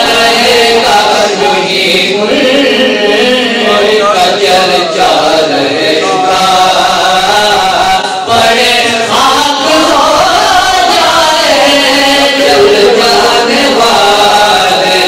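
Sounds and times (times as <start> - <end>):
group of men chanting: 0.0 - 15.0.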